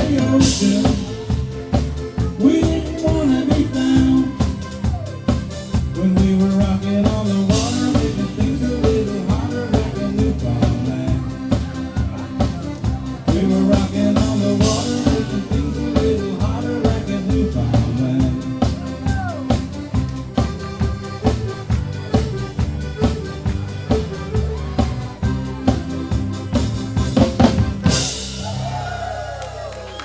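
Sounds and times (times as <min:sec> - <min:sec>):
electric guitar lead notes: 0:00.0 - 0:28.6
drum kit beat: 0:00.0 - 0:29.7
live rock band playing: 0:00.0 - 0:30.0.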